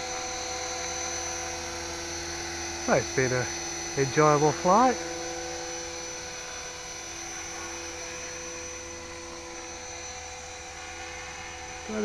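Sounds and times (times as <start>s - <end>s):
rc helicopter rotor whine: 0.0s - 12.0s.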